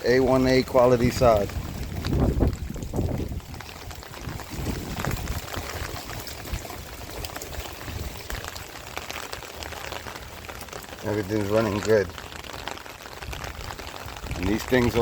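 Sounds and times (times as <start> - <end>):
rainwater pouring and splashing: 0.0 - 15.0
water dripping: 0.0 - 15.0.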